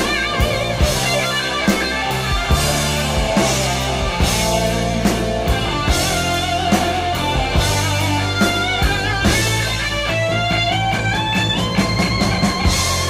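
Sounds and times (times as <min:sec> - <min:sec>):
electric guitar bending notes: 0:00.0 - 0:13.0
heavy metal band playing: 0:00.0 - 0:13.0.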